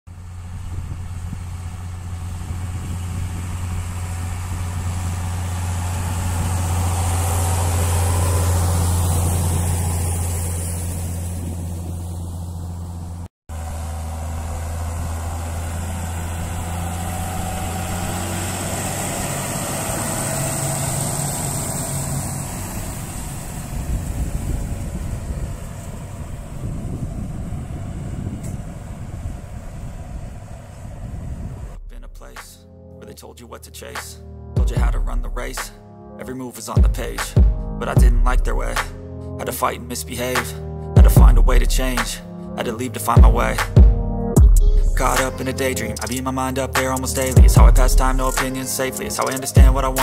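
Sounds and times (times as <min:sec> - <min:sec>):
tractor diesel engine drone: 0:00.1 - 0:36.2, 0:36.8 - 0:50.0.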